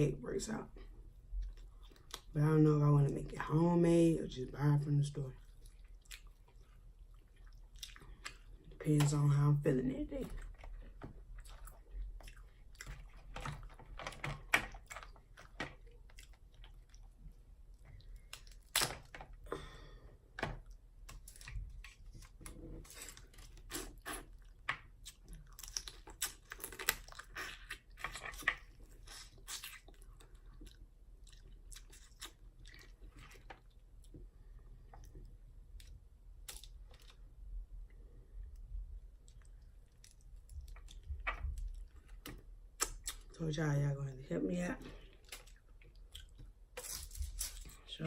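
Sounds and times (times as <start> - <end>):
wet chewing and smacking: 1.0 - 2.4, 5.4 - 9.2, 10.2 - 19.4, 20.6 - 37.4, 38.4 - 43.4, 45.0 - 47.9.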